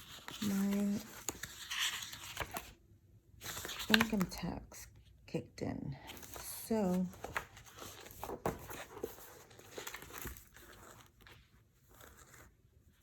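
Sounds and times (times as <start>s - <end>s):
paper rustling: 0.0s - 2.8s, 3.4s - 4.4s, 6.1s - 13.0s.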